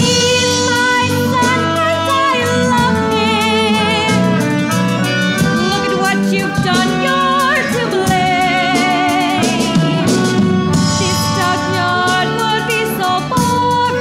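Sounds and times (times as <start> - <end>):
instrumental accompaniment: 0.0 - 14.0
voices singing: 0.0 - 14.0.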